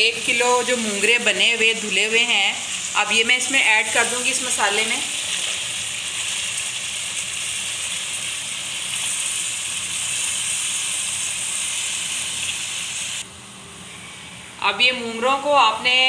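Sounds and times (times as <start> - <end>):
masala sizzling in a pan: 0.0 - 13.2.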